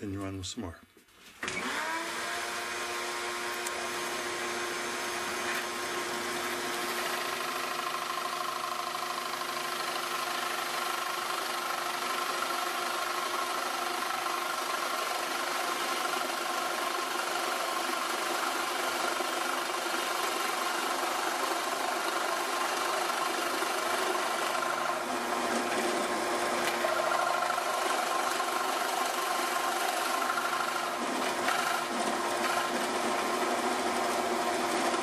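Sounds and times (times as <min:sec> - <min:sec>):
drill press boring wood: 0:01.4 - 0:35.0.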